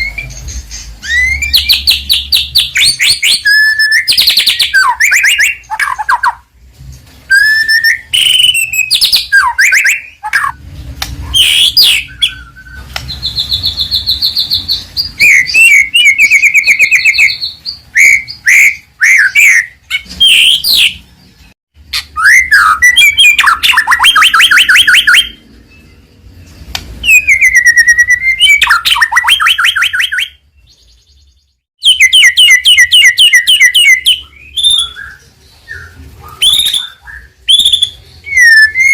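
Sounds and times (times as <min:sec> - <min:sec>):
bird singing whistles and trills: 0:00.0 - 0:06.5, 0:07.3 - 0:10.6, 0:11.2 - 0:21.4, 0:22.0 - 0:38.9.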